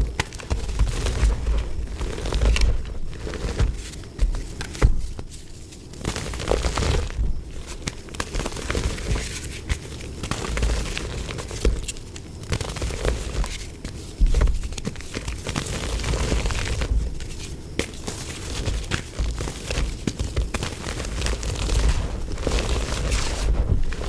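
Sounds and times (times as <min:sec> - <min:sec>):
dried mud crumbling: 0:00.0 - 0:24.0.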